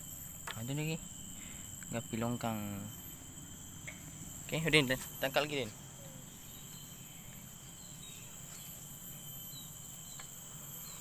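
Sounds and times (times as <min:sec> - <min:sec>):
high-pitched insect chirring: 0:00.0 - 0:11.0.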